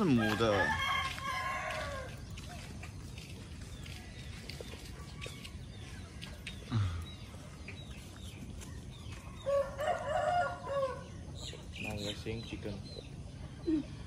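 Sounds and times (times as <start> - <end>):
birds chirping and peeping: 0.0 - 14.0.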